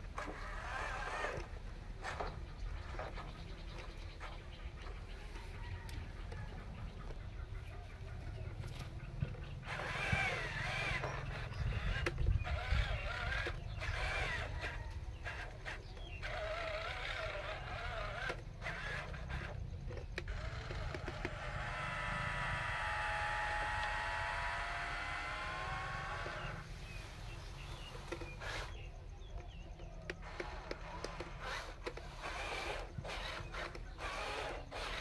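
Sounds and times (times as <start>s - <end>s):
electric drive motor whirring: 0.0s - 3.0s, 8.7s - 35.0s
geared lift motor whine: 0.0s - 7.2s, 8.2s - 35.0s.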